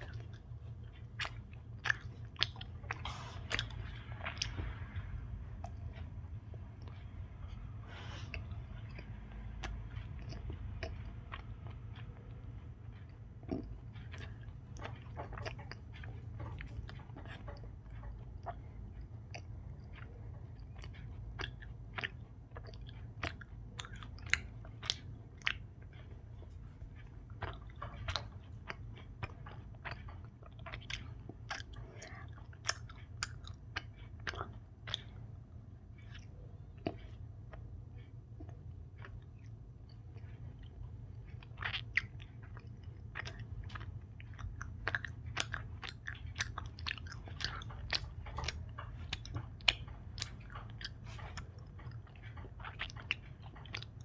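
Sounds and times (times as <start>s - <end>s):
close chewing with mouth clicks: 0.0s - 54.0s.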